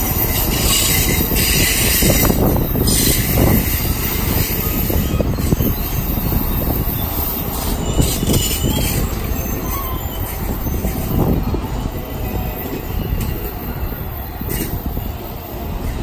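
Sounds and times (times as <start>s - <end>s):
faint wheel squeal: 0.0s - 16.0s
train wheels rumbling on track: 0.0s - 16.0s.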